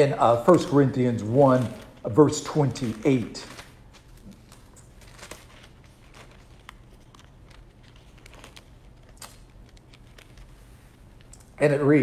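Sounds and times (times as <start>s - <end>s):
low room hum: 0.0s - 12.0s
pages rustling and clicking: 0.5s - 11.5s.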